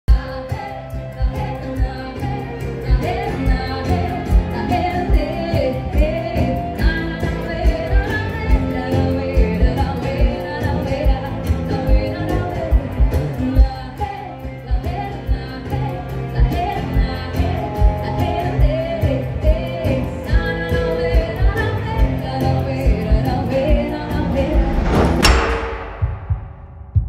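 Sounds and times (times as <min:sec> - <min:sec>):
woman singing: 0:00.1 - 0:24.4.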